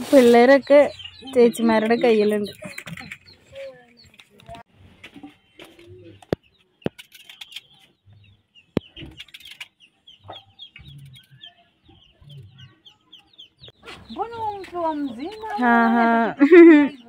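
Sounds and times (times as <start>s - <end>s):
chickens clucking: 0.1s - 7.0s, 7.8s - 17.0s.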